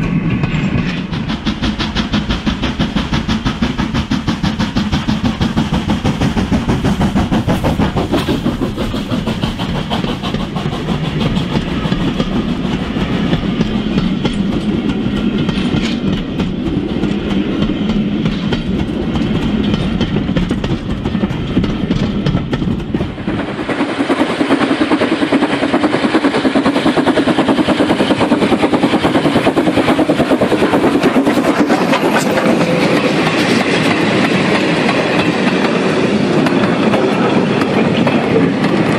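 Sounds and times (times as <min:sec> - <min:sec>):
model trains rattling on track: 0:00.0 - 0:38.9.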